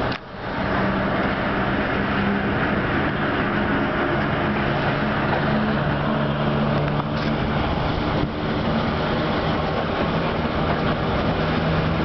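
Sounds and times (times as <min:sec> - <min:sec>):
train rushing noise: 0:00.0 - 0:12.0.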